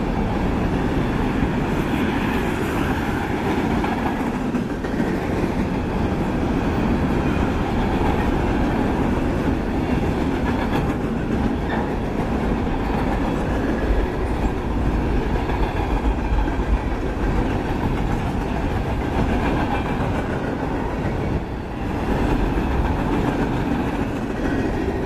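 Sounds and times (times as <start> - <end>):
steel wheels clattering over rail joints: 1.5 - 25.0.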